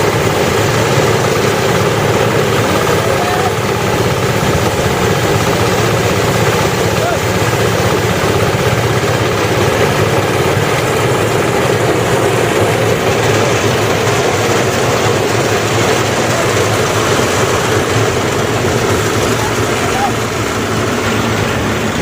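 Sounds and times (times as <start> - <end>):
harvester engine droning: 0.0 - 22.0.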